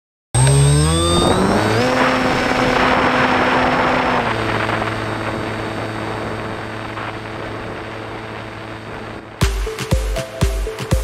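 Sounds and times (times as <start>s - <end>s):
electric motor and propeller whine: 0.4s - 11.0s.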